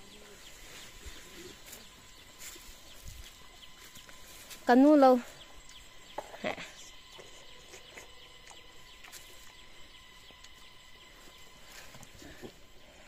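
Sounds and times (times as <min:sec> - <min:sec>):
insects humming: 0:00.0 - 0:13.0.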